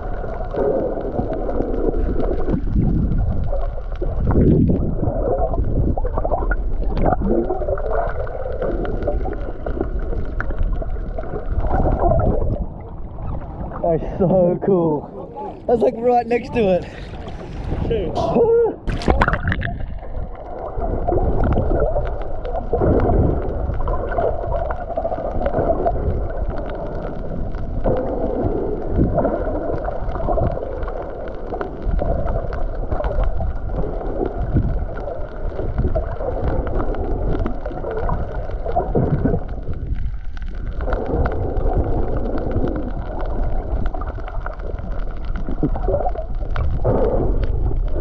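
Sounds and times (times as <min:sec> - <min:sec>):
small crackles: 0:00.0 - 0:14.0, 0:14.7 - 0:48.0
underwater gurgling and sloshing: 0:00.0 - 0:48.0.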